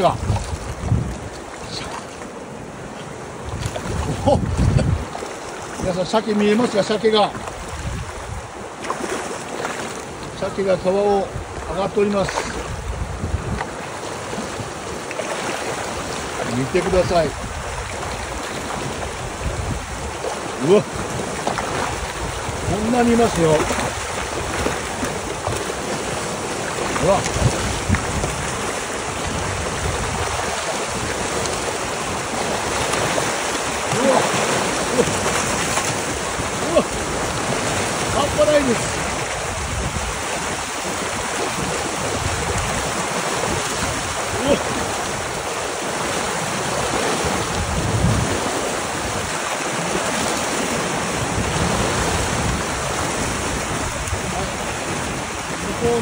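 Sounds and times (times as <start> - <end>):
river water rushing over stones: 0.0 - 56.0
wind on microphone: 0.0 - 56.0
fish splashing at the surface: 6.5 - 10.2, 13.6 - 56.0.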